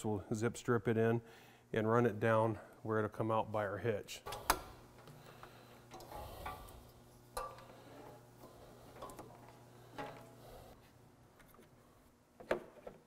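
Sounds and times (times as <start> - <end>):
low steady hum: 0.0 - 12.4.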